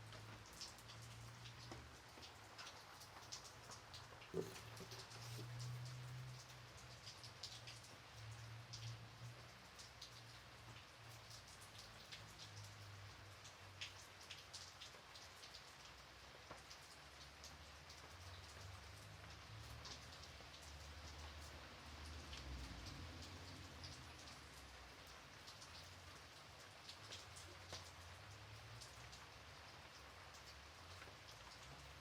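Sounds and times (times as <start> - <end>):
gentle rain hiss: 0.0 - 32.0
raindrops ticking: 0.0 - 32.0.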